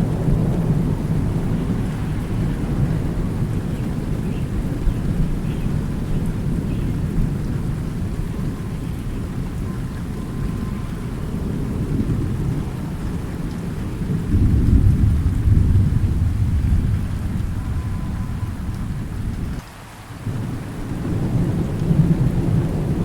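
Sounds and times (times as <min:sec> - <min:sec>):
loud roll of thunder: 0:00.0 - 0:19.6, 0:20.2 - 0:23.0
low rumbling thunder: 0:00.0 - 0:19.6, 0:20.2 - 0:23.0
steady rain: 0:00.0 - 0:23.0.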